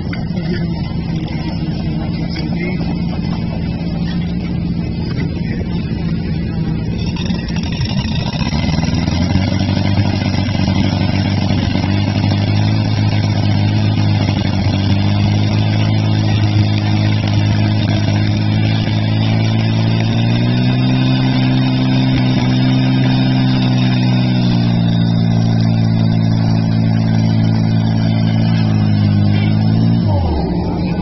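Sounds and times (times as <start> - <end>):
pump engine running at high revs: 0.0 - 31.0.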